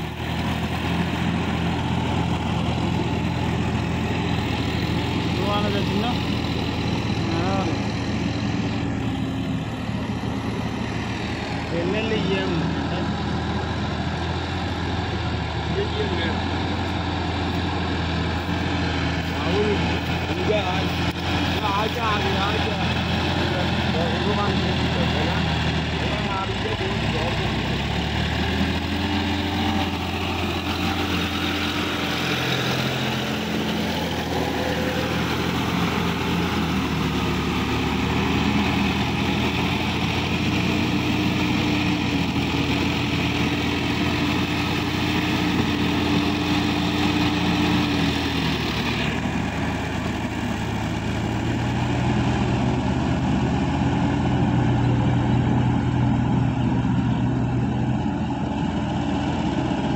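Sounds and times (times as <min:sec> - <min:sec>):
churning mud and water: 0:00.0 - 0:55.3
diesel tractor engine running: 0:00.0 - 0:59.9.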